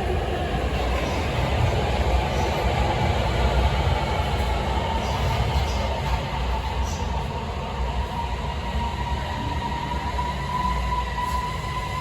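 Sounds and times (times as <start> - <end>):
subway train rumble: 0.0 - 12.0
train high whine: 0.0 - 12.0.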